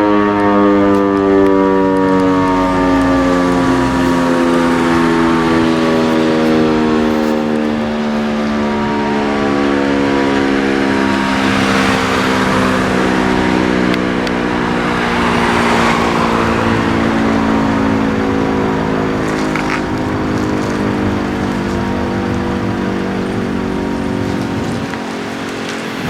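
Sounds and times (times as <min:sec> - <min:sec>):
civil defence siren: 0:00.0 - 0:26.0
passing car rushing: 0:00.0 - 0:26.0.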